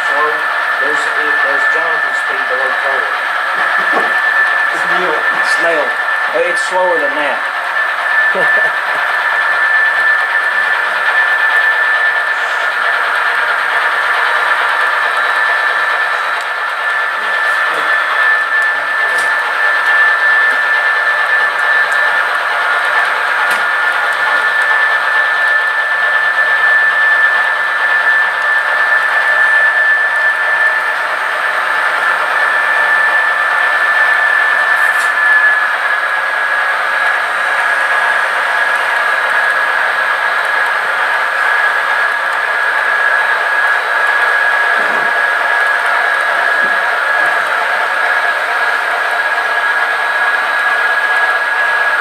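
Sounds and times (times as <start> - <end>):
model train whirring: 0.0 - 52.0.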